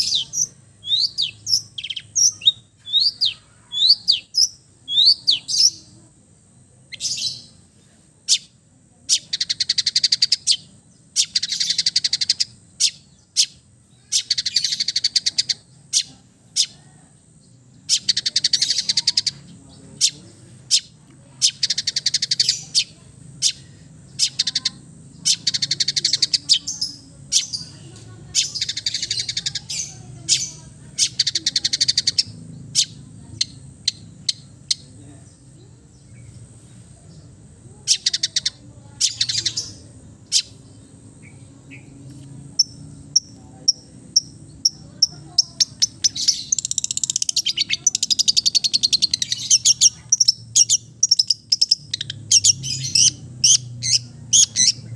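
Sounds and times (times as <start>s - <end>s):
bird harsh chattering song: 0.0s - 54.9s.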